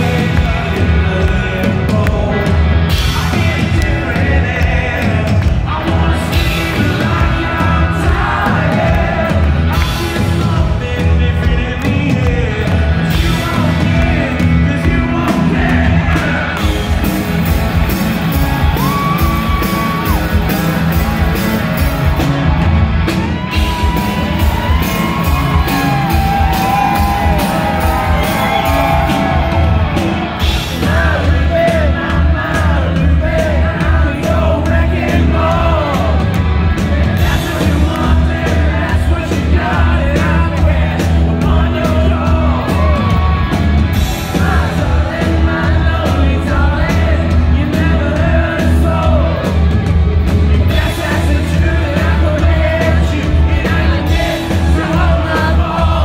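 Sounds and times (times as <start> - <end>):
person singing: 0.0 - 17.2, 23.4 - 49.6, 50.5 - 56.0
crowd yelling and whooping: 0.0 - 56.0
drums: 0.0 - 56.0
electric guitar: 0.0 - 56.0.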